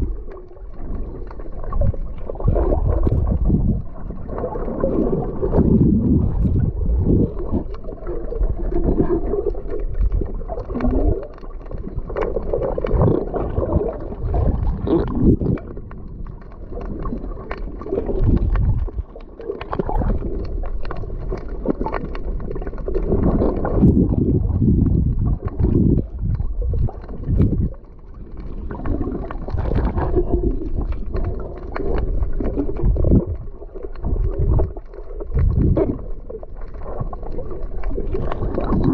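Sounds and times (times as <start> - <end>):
muffled water gurgling and sloshing: 0.0 - 38.9.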